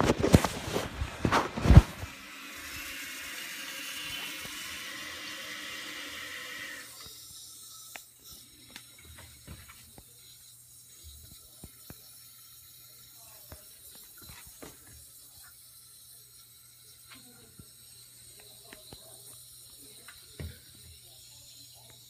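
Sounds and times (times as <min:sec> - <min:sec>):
toilet fill valve hissing: 0:00.8 - 0:22.0.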